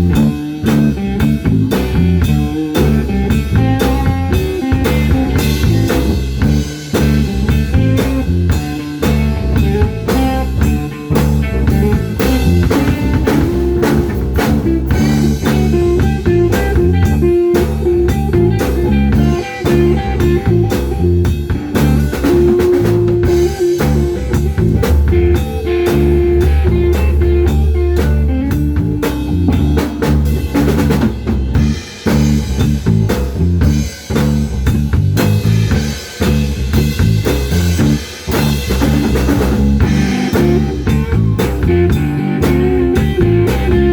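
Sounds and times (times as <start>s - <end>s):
bass guitar: 0.0s - 43.9s
drum kit with snare rimshots: 0.0s - 43.9s
electric guitar: 0.0s - 43.9s.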